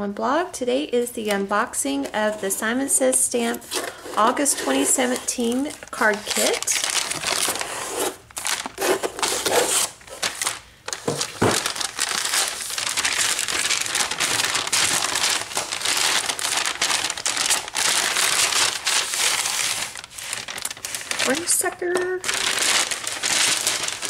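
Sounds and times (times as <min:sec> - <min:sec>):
packing paper crinkling: 0:03.4 - 0:24.0.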